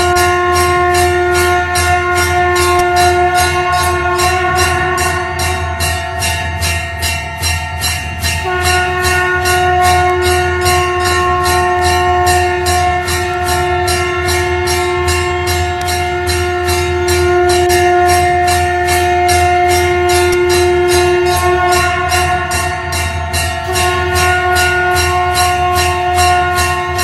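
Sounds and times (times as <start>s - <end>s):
conch shell blown: 0.0s - 7.2s, 8.2s - 27.0s
temple bell ringing: 0.0s - 27.0s.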